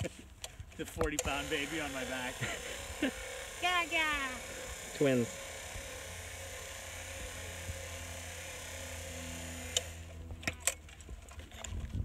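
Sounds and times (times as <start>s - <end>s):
electric auger whirring: 0.0s - 12.0s.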